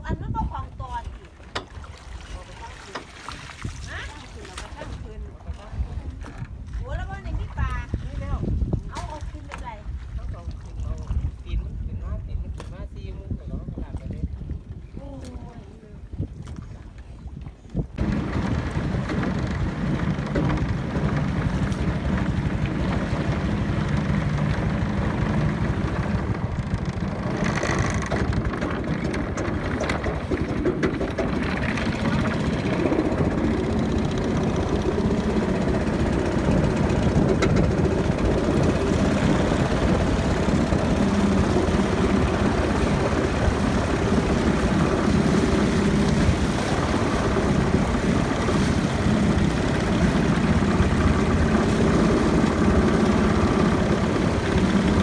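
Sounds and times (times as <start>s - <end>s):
boat engine droning: 0.0s - 10.6s, 18.0s - 55.0s.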